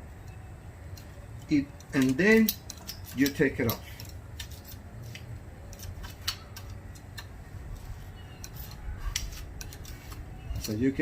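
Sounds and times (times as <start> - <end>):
sealant clicks and scrapes: 1.8 - 11.0.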